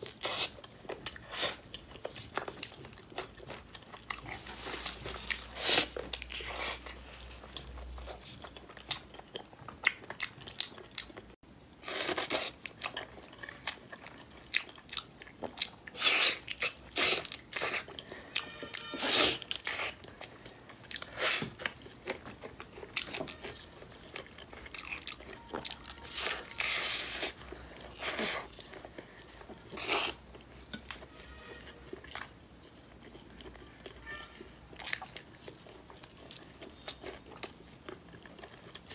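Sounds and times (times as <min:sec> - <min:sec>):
person chewing: 0:00.0 - 0:38.9.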